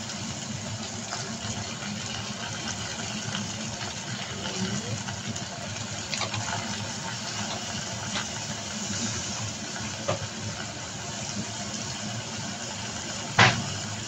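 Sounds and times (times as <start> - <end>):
pot hissing on a stove: 0.0 - 14.0.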